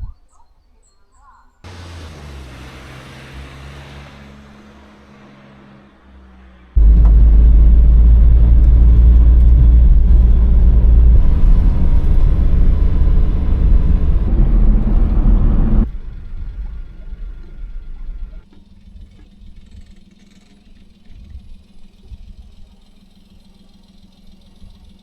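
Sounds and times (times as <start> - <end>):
vehicle driving rumble: 1.7 - 25.0.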